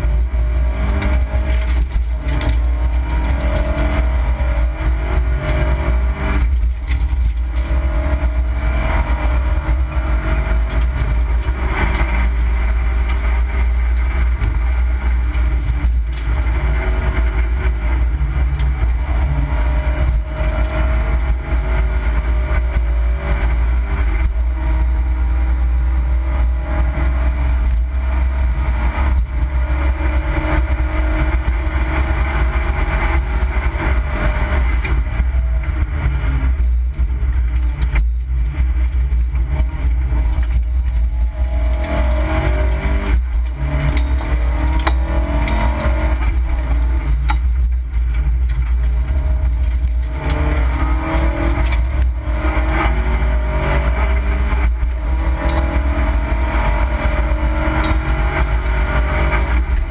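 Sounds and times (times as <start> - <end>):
rally car engine revving hard: 0.0 - 59.9.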